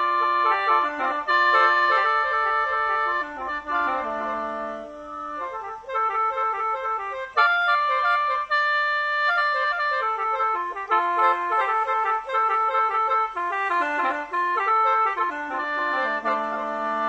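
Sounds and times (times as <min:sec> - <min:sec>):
mouth organ playing: 0:00.0 - 0:17.0.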